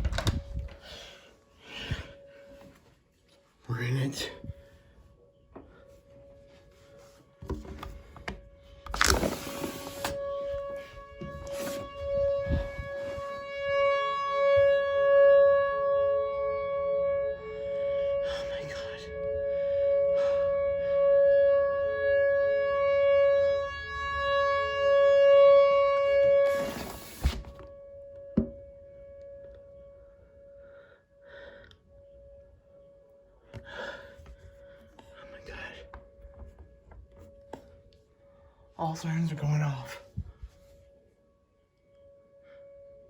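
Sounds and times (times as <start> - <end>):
tornado warning siren wailing: 0.0 - 43.0.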